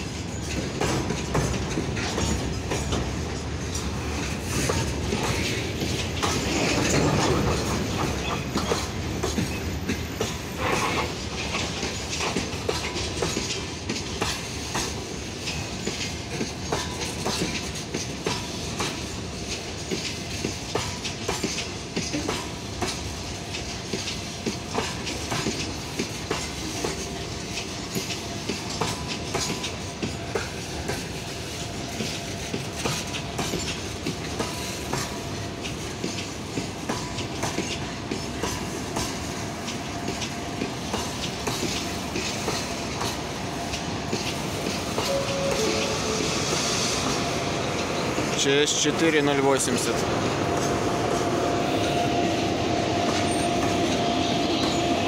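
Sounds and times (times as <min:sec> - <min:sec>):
train wheels clattering on rails: 0:00.0 - 0:55.0.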